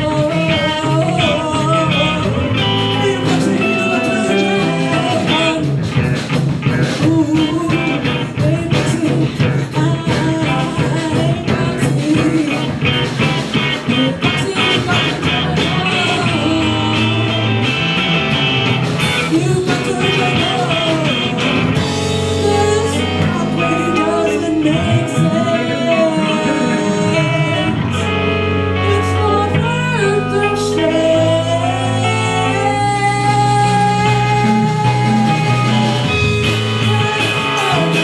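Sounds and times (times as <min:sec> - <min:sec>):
bass guitar: 0:00.0 - 0:38.0
drums: 0:00.0 - 0:38.0
electric guitar: 0:00.0 - 0:38.0.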